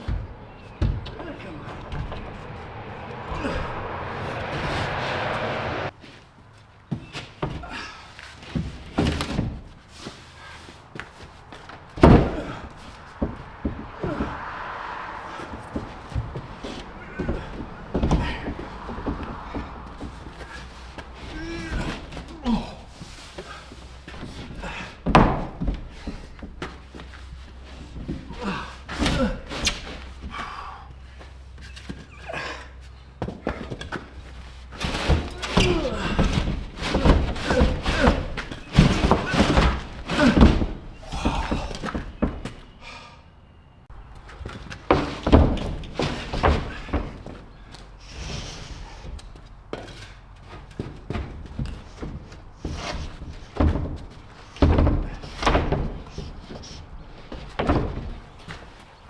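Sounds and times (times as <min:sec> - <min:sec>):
wooden board thunks and knocks: 0:00.0 - 0:04.5, 0:08.5 - 0:10.2, 0:11.0 - 0:30.4, 0:33.2 - 0:42.8, 0:44.3 - 0:49.9, 0:50.5 - 0:58.8.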